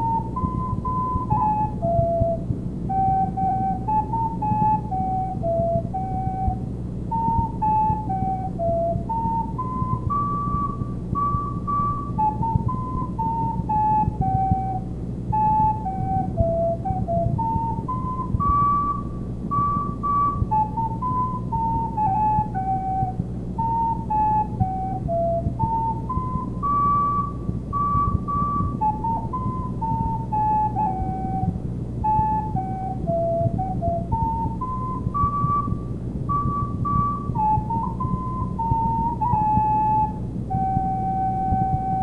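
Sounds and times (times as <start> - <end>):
recorder melody: 0.0 - 42.0
steady low hum: 0.0 - 42.0.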